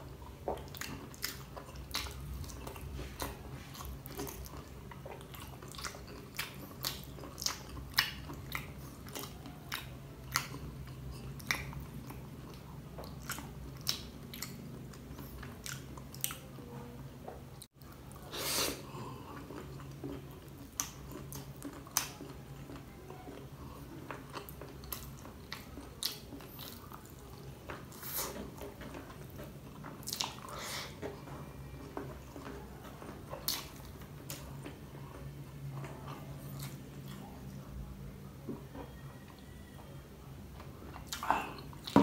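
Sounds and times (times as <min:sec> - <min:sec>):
chewing and biting shrimp: 0:00.1 - 0:16.5, 0:17.8 - 0:35.2.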